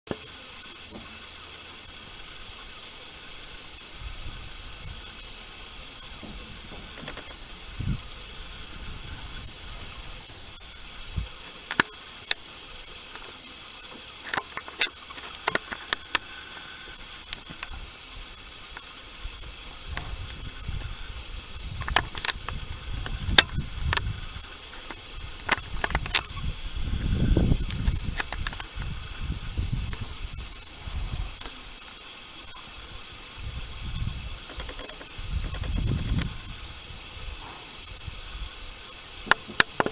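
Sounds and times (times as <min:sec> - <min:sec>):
high-pitched hiss: 0:00.1 - 0:39.9.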